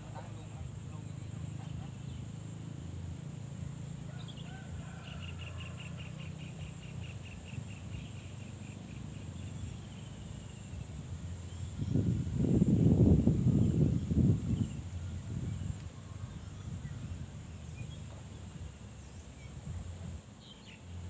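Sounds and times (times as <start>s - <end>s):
loud uneven low rumble: 0.0s - 21.0s
steady low hum: 0.0s - 21.0s.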